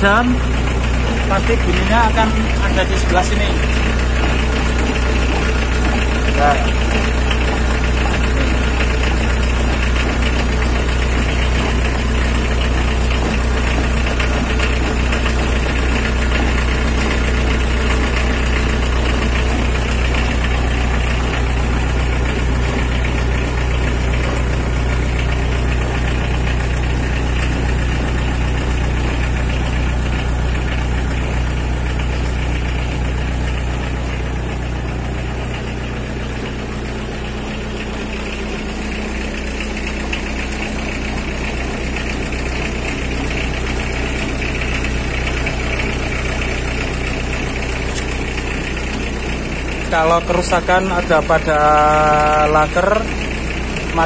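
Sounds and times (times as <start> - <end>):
drivetrain humming and rumbling: 0.0 - 54.0.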